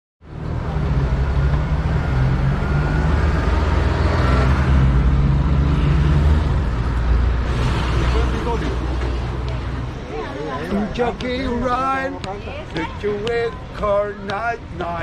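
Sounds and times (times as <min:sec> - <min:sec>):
street traffic: 0:00.2 - 0:15.0
vehicle engine rumbling: 0:00.2 - 0:15.0.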